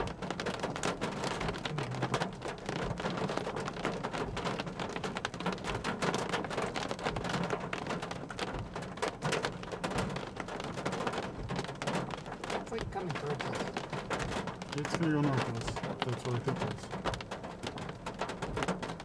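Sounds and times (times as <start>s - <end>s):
sharp raindrop hits: 0.0s - 19.0s
steady rain: 0.0s - 19.0s.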